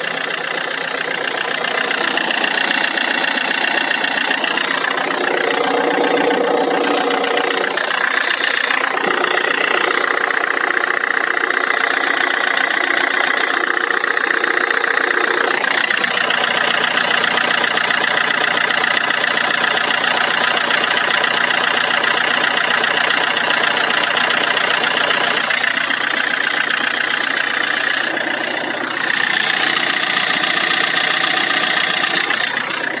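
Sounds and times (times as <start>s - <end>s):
diesel engine idling with knocking: 0.0s - 33.0s.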